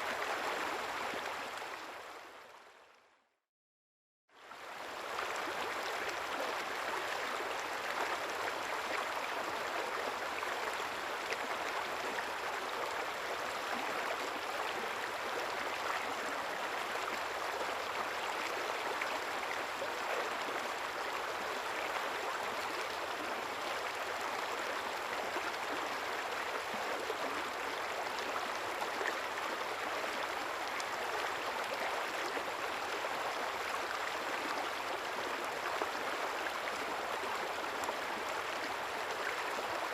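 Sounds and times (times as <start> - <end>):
river water flowing: 4.4 - 39.9.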